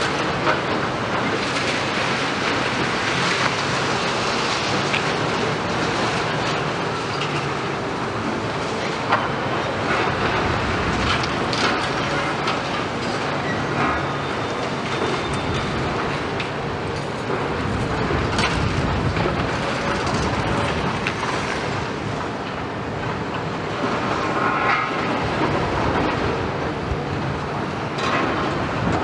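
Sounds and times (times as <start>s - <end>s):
excavator diesel engines running: 0.0s - 29.0s.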